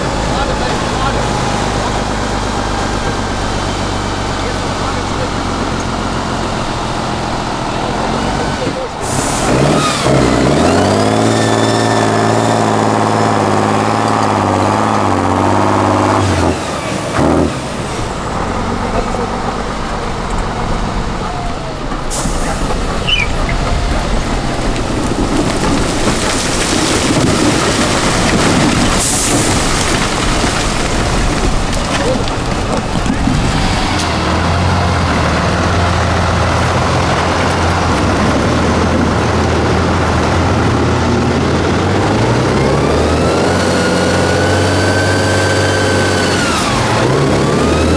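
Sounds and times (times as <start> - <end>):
truck diesel engine revving: 0.0 - 47.9.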